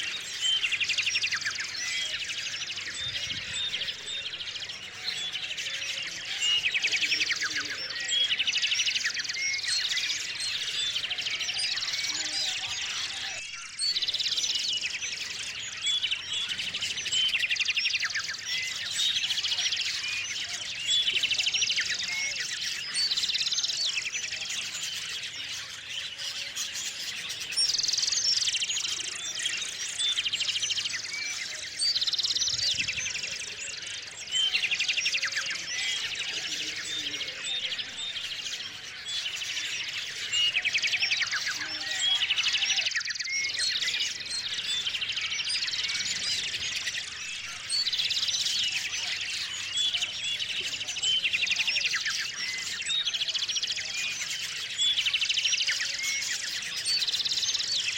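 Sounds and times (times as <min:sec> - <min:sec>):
bird trilled song: 0:00.0 - 0:57.9
songbirds chirping: 0:00.0 - 0:57.9.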